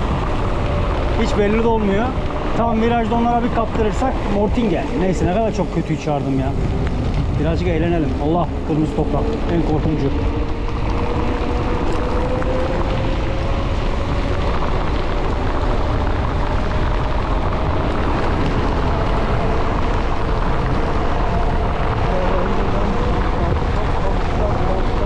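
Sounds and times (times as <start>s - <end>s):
bike tyres rolling on asphalt: 0.0s - 25.0s
wind on microphone: 0.0s - 25.0s.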